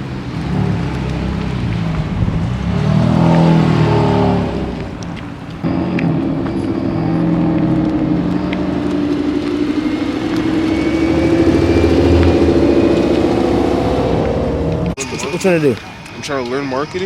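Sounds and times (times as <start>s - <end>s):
deep exhaust rumble: 0.0s - 15.0s
car engine running: 0.0s - 15.4s.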